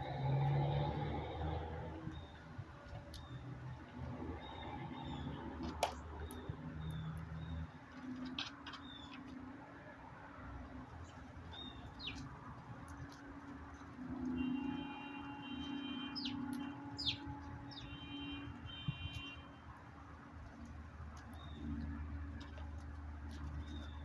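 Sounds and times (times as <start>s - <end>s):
small birds chirping: 0.0s - 9.5s, 10.6s - 24.0s.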